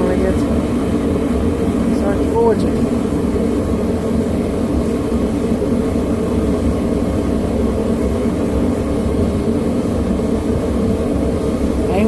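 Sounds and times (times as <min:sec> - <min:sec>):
forge burner rushing: 0:00.0 - 0:12.0.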